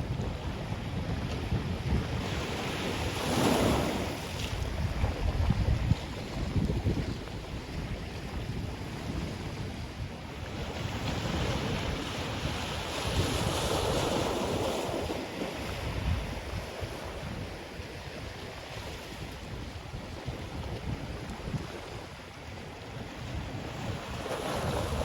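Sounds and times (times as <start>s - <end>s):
ocean waves crashing on shore: 0.0s - 25.0s
wind buffeting microphone: 0.0s - 25.0s.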